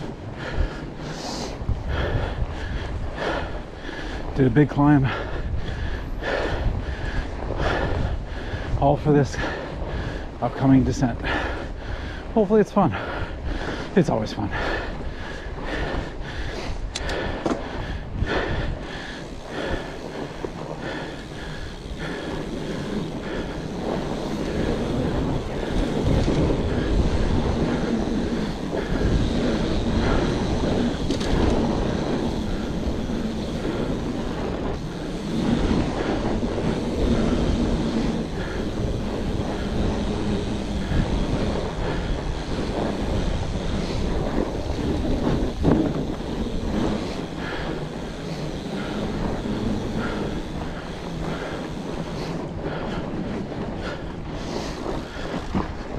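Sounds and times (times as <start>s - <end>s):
bike tyres rumbling over trail: 0.0s - 55.9s
wind buffeting microphone: 0.0s - 55.9s.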